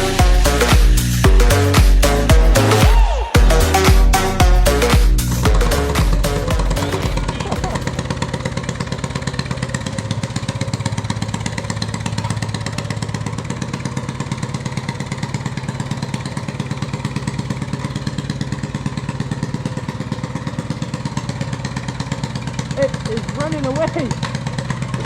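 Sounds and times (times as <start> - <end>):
moped engine running: 0.0 - 25.0.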